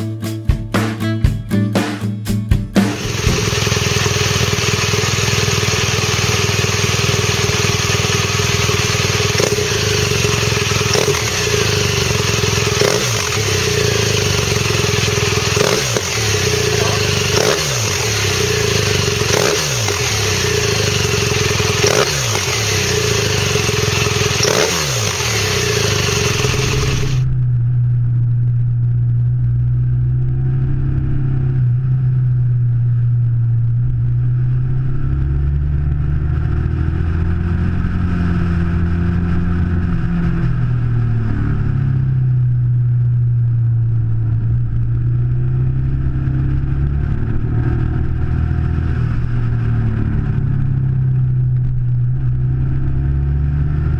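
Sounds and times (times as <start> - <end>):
motorcycle engine revving: 2.8 - 53.9
motorcycle riding on road: 2.9 - 53.9.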